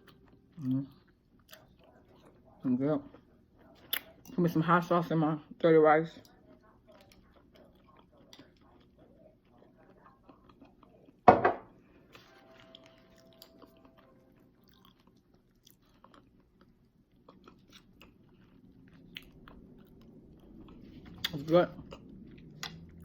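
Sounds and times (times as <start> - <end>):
person chewing food: 0.0 - 4.4, 6.1 - 23.0.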